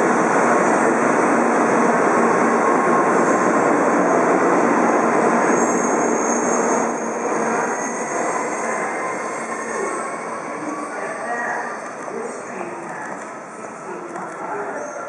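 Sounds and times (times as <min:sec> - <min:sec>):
bullet train rushing past: 0:00.0 - 0:15.0.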